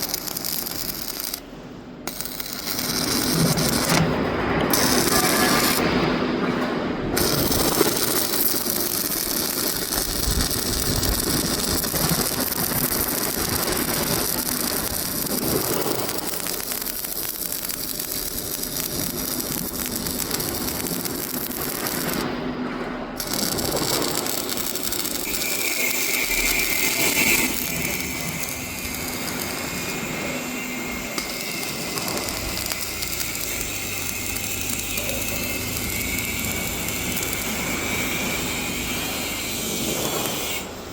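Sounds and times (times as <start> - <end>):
arc welding crackle: 0.0 - 40.9.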